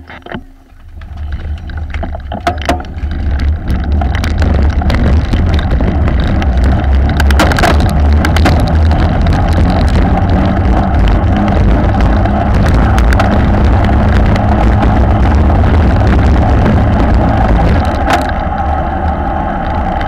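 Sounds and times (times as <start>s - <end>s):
bike tyres rumbling on bricks: 0.0s - 20.0s
wind buffeting microphone: 0.8s - 20.0s.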